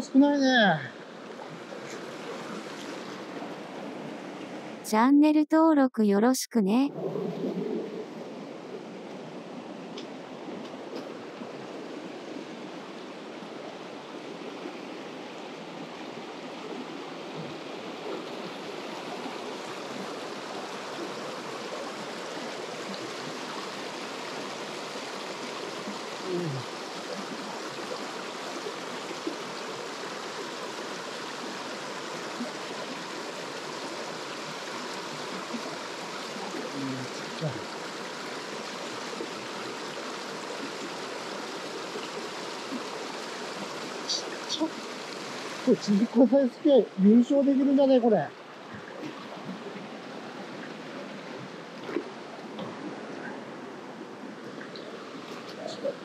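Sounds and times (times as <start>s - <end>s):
stream water running: 0.0s - 5.8s, 6.8s - 56.0s.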